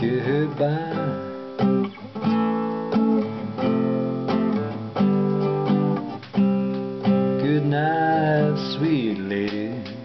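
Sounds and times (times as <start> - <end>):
acoustic guitar strummed: 0.0 - 10.0.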